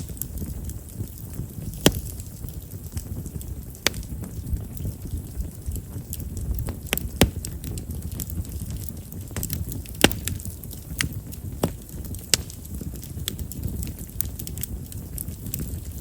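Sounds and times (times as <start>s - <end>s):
bonfire crackling and popping: 0.0s - 16.0s
low steady rumble: 0.0s - 16.0s.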